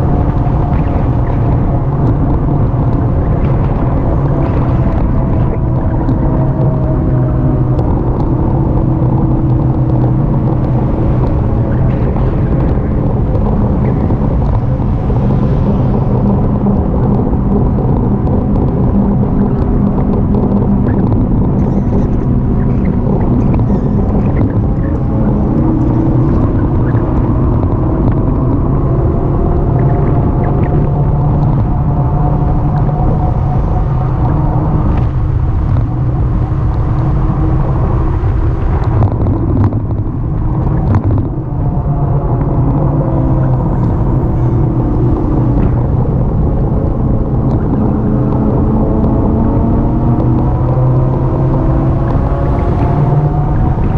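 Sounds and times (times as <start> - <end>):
humming motor tone: 0.0 - 53.9
wind rumble on microphone: 0.0 - 53.9.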